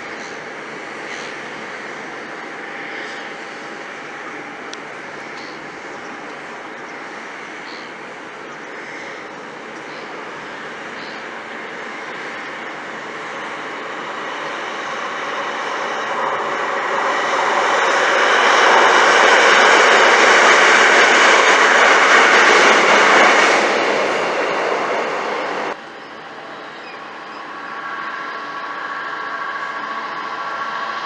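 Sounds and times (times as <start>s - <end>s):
train passing: 0.0s - 31.0s.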